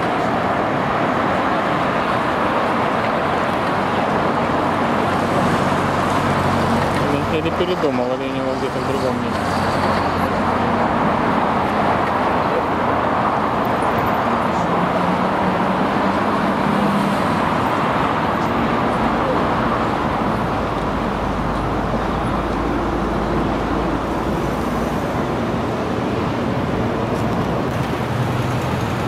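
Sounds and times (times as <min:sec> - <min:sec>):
passing cars rushing: 0:00.0 - 0:29.0.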